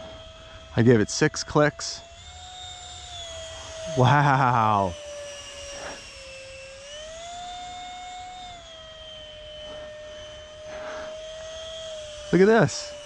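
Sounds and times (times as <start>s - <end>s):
electric model jet whine: 0.0s - 13.0s.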